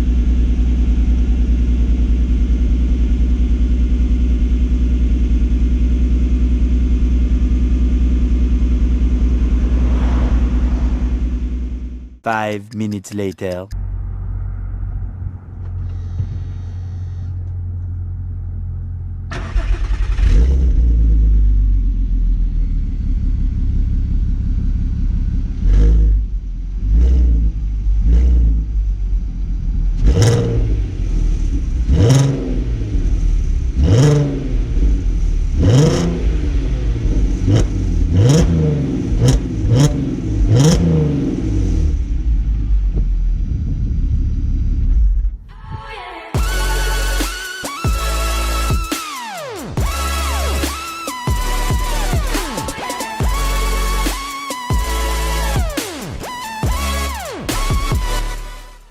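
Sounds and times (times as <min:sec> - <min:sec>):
car engine revving in blips: 0:00.0 - 0:12.1, 0:19.3 - 0:22.1, 0:24.7 - 0:45.5, 0:46.4 - 0:58.9
car engine idling: 0:00.0 - 0:12.5, 0:13.2 - 0:58.9.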